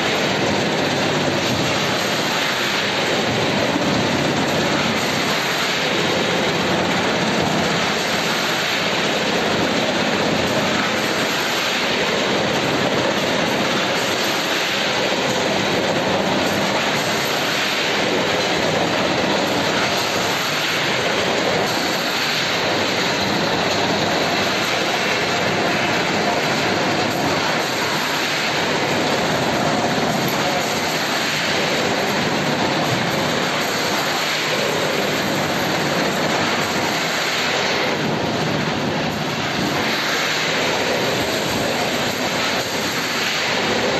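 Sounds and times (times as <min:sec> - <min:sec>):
steady machinery noise: 0:00.0 - 0:43.9.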